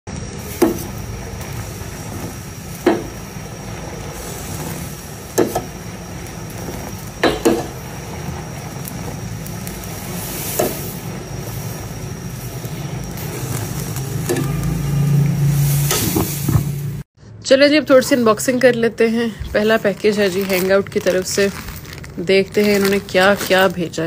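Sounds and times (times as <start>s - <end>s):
liquid boiling and bubbling: 0.1s - 17.1s, 19.5s - 24.0s
gas burner noise: 0.1s - 24.0s.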